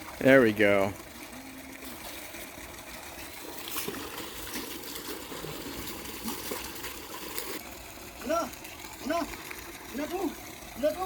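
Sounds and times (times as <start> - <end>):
water running and trickling: 0.0 - 11.0
water splashes: 0.0 - 11.0.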